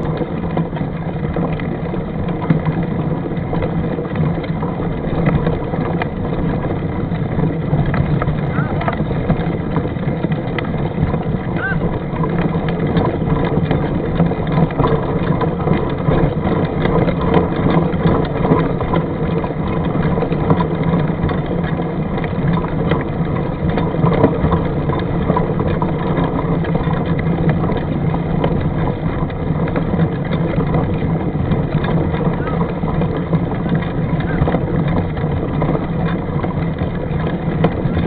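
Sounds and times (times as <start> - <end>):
mountain bike rattling on rough trail: 0.0 - 38.0
wind rumbling on microphone: 0.0 - 38.0.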